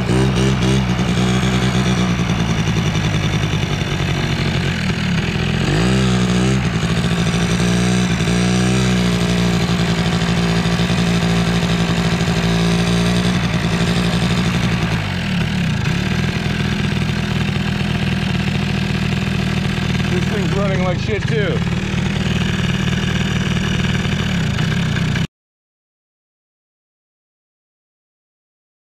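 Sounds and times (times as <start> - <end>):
quad two-stroke engine running: 0.0 - 25.3.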